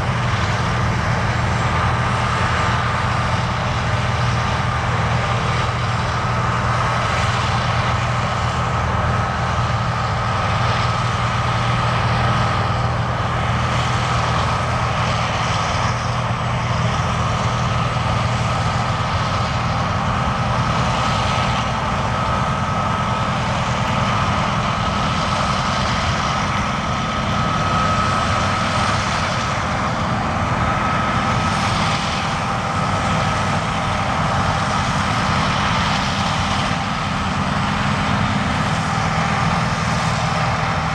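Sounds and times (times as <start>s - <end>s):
harvest machinery diesel engine: 0.0s - 40.9s
thin steady whine: 0.0s - 40.9s.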